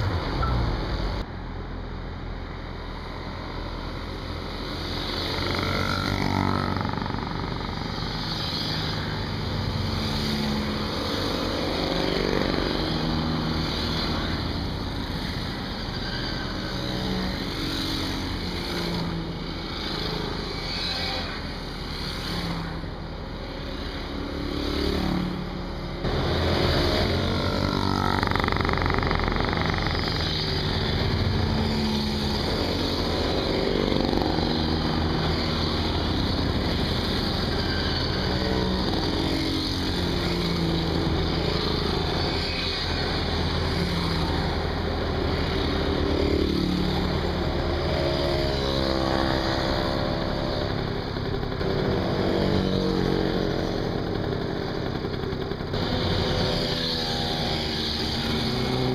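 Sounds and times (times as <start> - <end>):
small engines running close by: 2.5 - 58.9
motorcycles passing by: 2.7 - 58.9.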